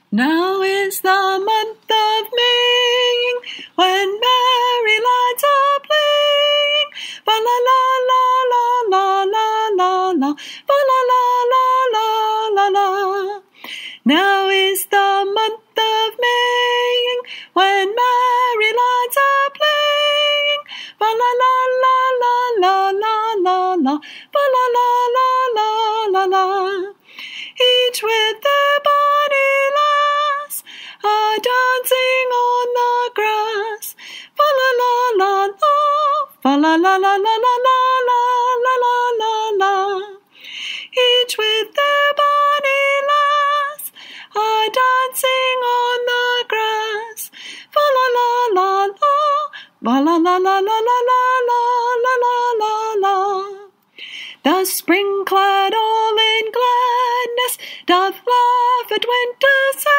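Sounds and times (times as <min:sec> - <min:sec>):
woman singing with vibrato: 0:00.0 - 0:59.9.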